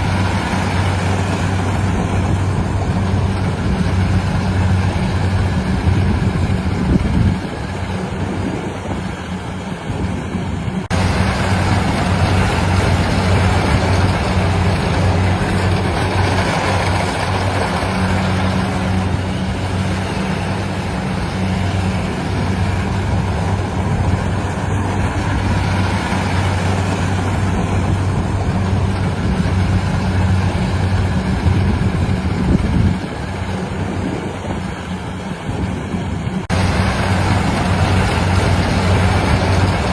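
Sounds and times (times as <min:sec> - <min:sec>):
harvester engine humming: 0:00.0 - 0:39.9
machinery clattering: 0:00.0 - 0:39.9.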